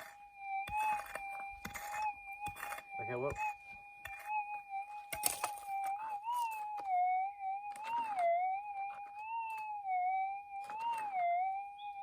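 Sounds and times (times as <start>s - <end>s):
digging scrapes and knocks: 0.0s - 7.0s, 7.6s - 9.8s, 10.4s - 11.4s.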